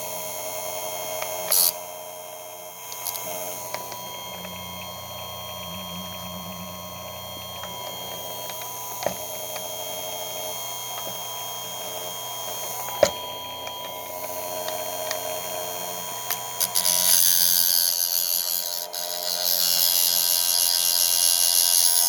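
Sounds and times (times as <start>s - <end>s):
grinder motor whining: 0.0s - 22.0s.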